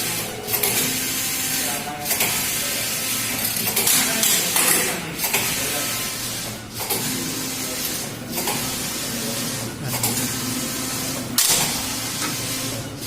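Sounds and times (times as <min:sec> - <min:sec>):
knitting machine carriage hissing: 0:00.0 - 0:13.0.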